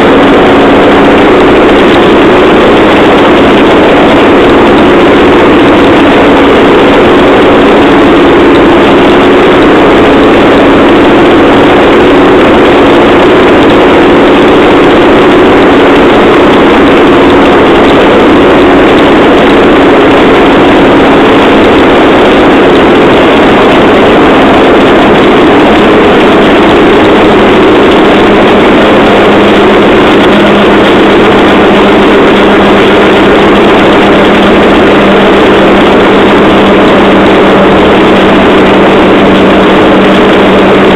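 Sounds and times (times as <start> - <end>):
rail trolley engine droning: 0.0 - 40.9.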